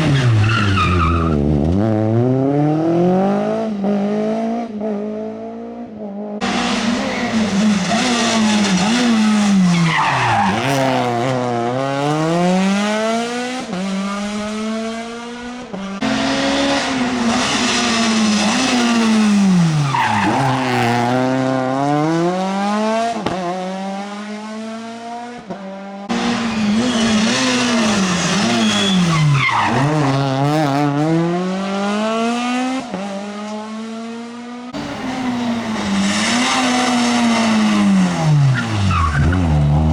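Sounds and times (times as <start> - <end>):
rally car engines at high revs: 0.0 - 39.9.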